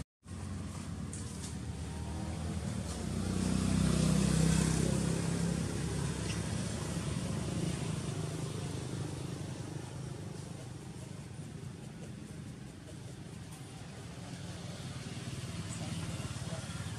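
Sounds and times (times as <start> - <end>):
vehicle driving past: 0.3 - 16.9.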